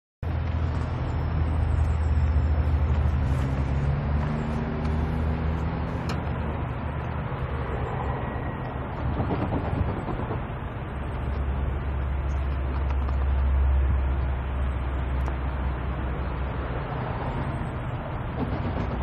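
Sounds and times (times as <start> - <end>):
diesel locomotive engine drone: 0.2 - 19.0.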